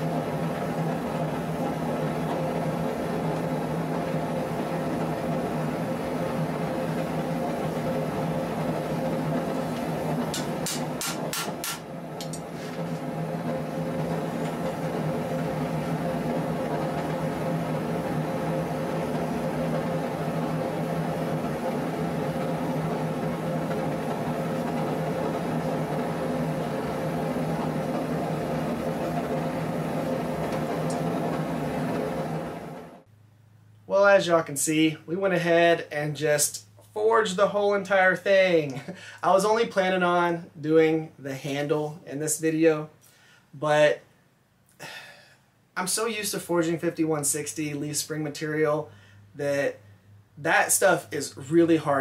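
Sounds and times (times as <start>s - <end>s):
mechanical hum: 0.0s - 52.0s.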